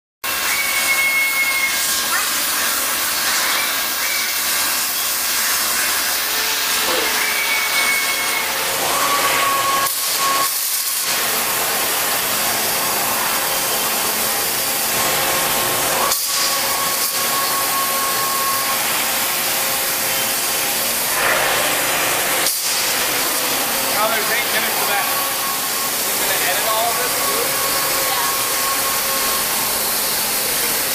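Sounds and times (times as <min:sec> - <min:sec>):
water jets hissing: 0:01.5 - 0:07.7, 0:09.9 - 0:30.9.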